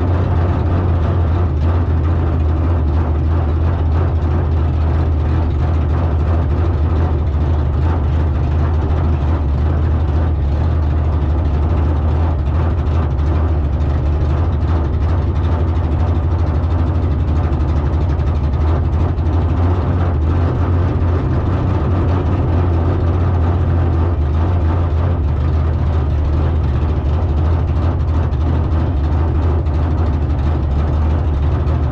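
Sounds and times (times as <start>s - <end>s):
car engine droning: 0.0s - 31.9s.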